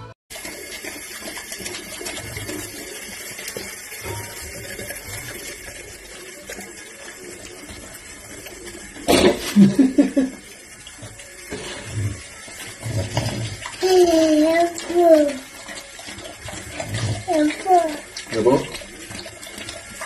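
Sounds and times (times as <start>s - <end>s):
water running from a tap: 0.3s - 20.0s.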